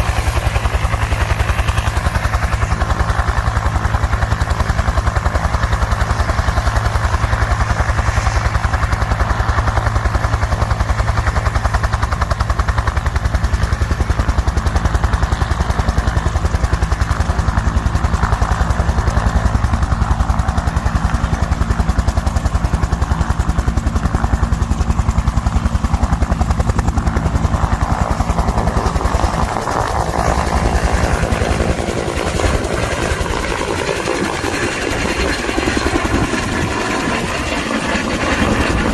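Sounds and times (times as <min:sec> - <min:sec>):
helicopter rotor beating: 0:00.0 - 0:38.9.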